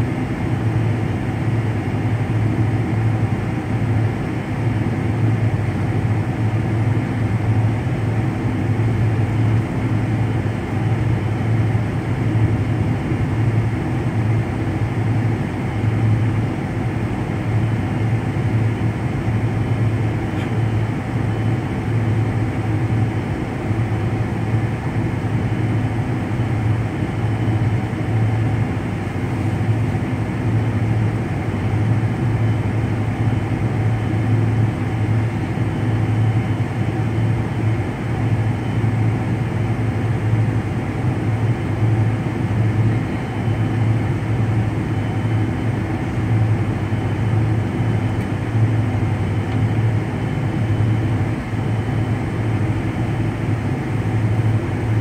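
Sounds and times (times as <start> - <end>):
jet engines idling hum: 0.0 - 55.0.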